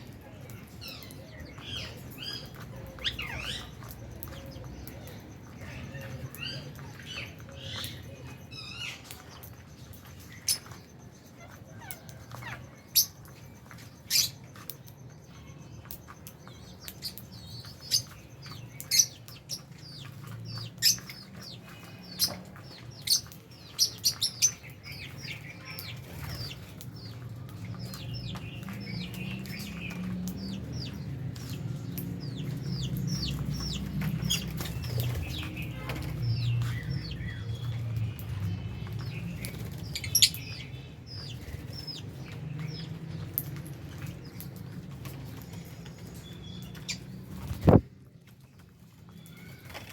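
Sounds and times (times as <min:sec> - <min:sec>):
lovebirds chirping: 0:00.0 - 0:49.9.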